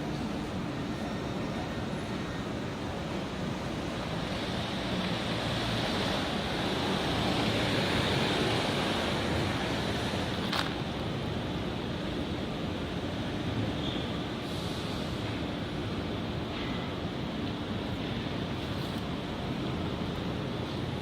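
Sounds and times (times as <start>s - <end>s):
steady rushing hiss: 0.0s - 21.0s.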